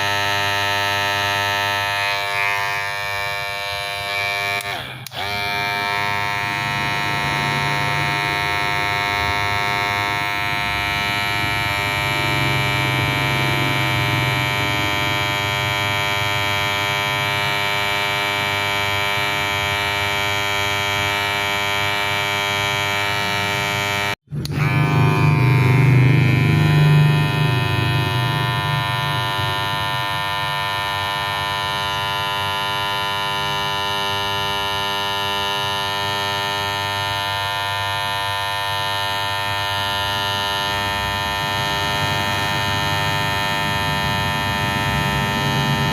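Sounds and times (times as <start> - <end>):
electric hair clipper buzzing: 0.0 - 45.9.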